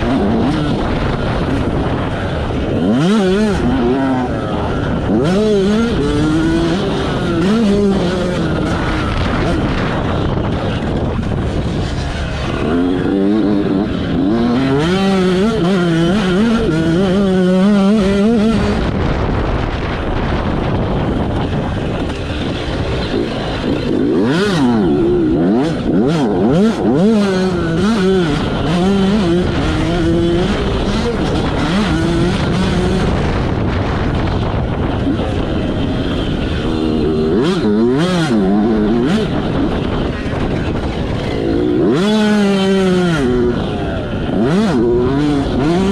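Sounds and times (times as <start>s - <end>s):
motocross bike engine revving: 0.0s - 45.9s
rough rushing noise: 0.0s - 45.9s.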